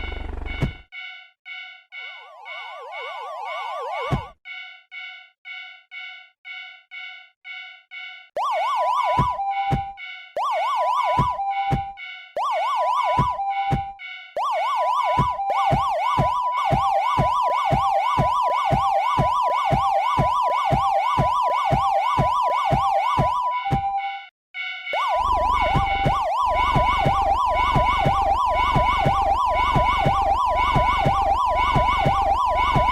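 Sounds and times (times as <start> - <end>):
warbling police sirens: 0.0 - 0.9, 2.0 - 4.4, 8.4 - 32.9.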